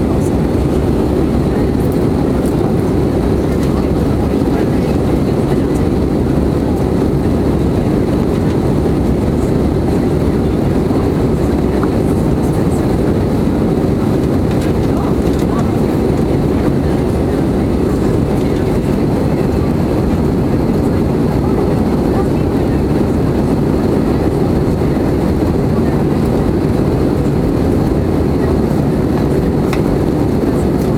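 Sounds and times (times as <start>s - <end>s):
airplane cabin engine rush: 0.0s - 30.9s.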